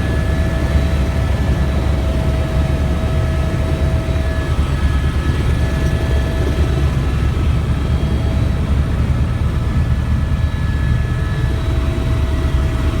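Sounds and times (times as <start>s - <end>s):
helicopter rotor and engine rumble: 0.0s - 13.0s.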